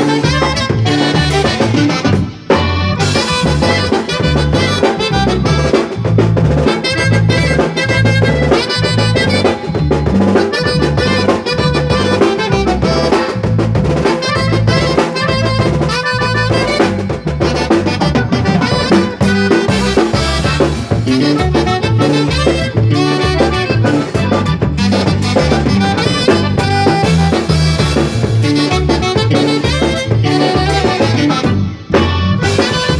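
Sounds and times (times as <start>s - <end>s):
instrumental band music: 0.0s - 32.9s.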